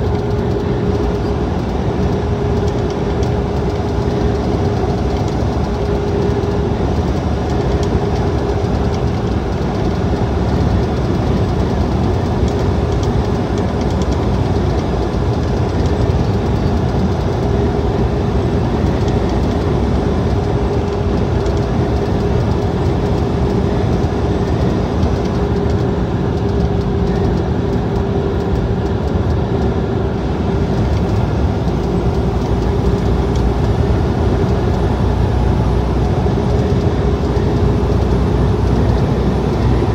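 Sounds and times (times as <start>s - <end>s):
steady hum: 0.0s - 39.9s
truck engine and tyre drone: 0.0s - 39.9s.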